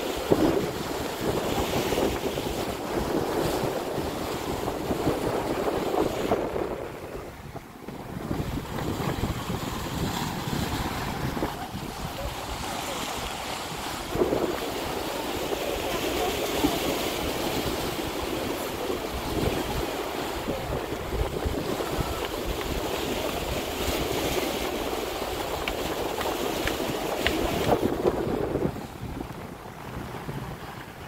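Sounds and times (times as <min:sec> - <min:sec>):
choppy sea water rushing: 0:00.0 - 0:31.0
wind buffeting microphone: 0:00.0 - 0:31.0.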